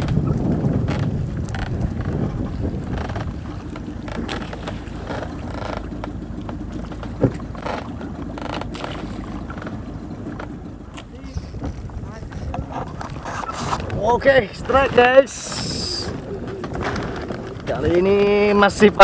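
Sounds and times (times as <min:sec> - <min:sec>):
low rumble: 0:00.0 - 0:19.0
water slapping the hull: 0:00.0 - 0:19.0
wind and water noise: 0:00.0 - 0:19.0.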